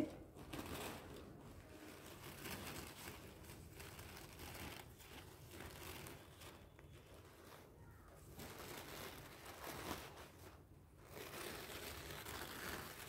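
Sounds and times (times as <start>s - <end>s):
paper napkin rustling: 0.0s - 13.0s.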